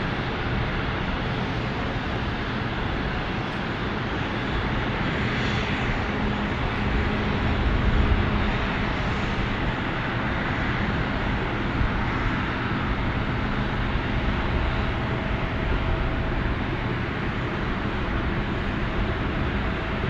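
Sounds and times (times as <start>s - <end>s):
airliner engines rushing: 0.0s - 20.0s
low engine hum: 0.0s - 20.0s.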